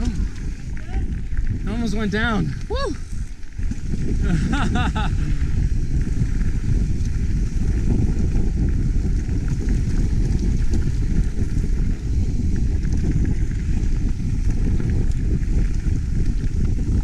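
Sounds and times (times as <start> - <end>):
bike ticking and rattling: 0.0 - 17.0
wind rushing over microphone: 0.0 - 17.0.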